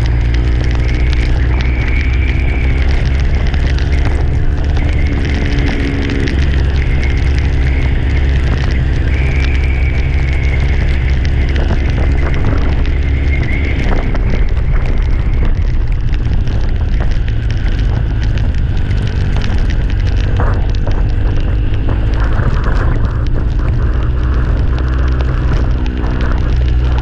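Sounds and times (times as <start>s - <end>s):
engine hum: 0.0s - 27.0s
wind rumble on microphone: 0.0s - 27.0s.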